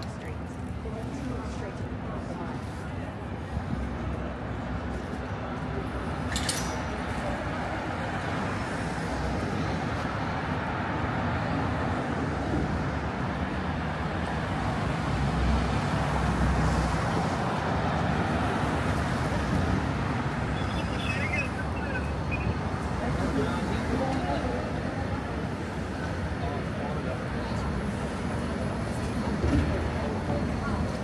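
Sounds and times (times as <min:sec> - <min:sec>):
heavy vehicle rumble: 0:00.0 - 0:31.0
traffic passing: 0:00.0 - 0:31.0.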